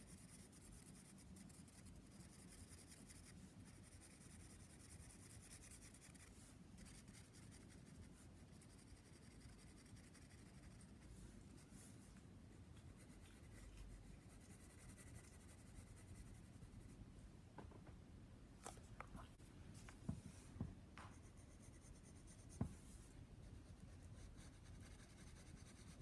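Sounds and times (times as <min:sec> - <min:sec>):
pencil scratching on paper: 0:00.0 - 0:11.9, 0:12.8 - 0:16.9, 0:21.0 - 0:26.0.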